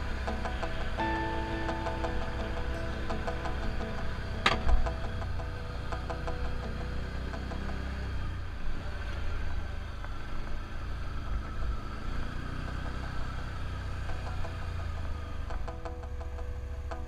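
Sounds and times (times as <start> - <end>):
atv engine running at low revs: 0.0 - 17.0.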